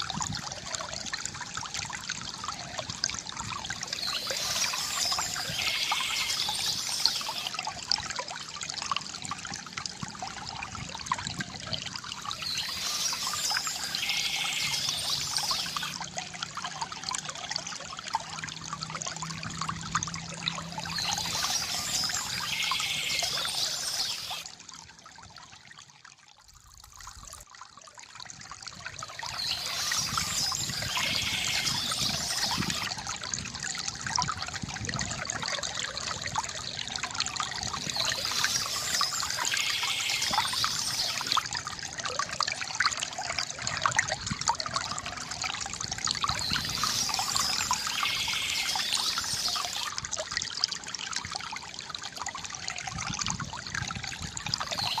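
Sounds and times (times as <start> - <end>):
water gurgling from bamboo spout: 0.0 - 55.0.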